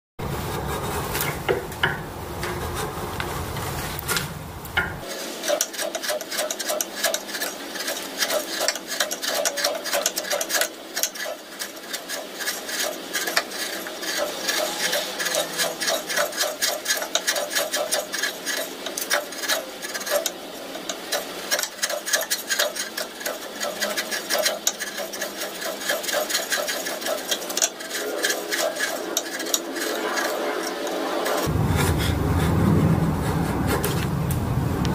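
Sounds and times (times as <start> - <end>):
chisel scraping wood: 5.0 - 34.1.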